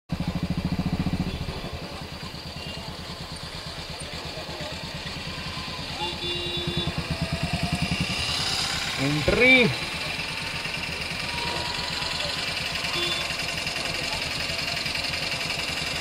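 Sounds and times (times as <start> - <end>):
motorcycle engine at low revs: 0.1 - 16.0.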